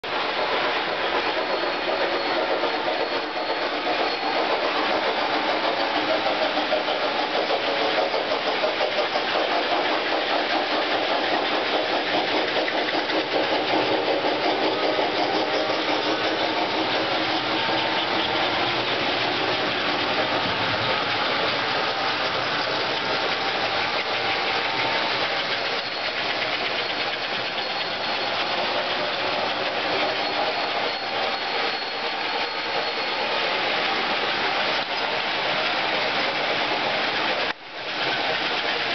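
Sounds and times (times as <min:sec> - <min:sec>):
model train motors whirring: 0:00.1 - 0:38.9.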